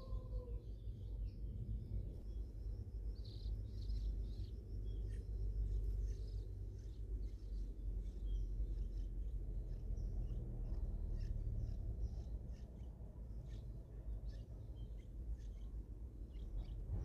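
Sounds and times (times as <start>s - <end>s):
steady low rumble: 0.0s - 17.0s
nestlings begging chirps: 2.2s - 16.9s.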